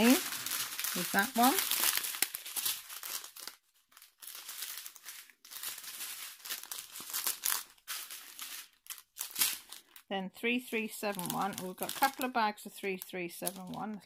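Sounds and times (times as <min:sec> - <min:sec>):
plastic bags crinkling: 0:00.0 - 0:10.1, 0:10.7 - 0:14.0.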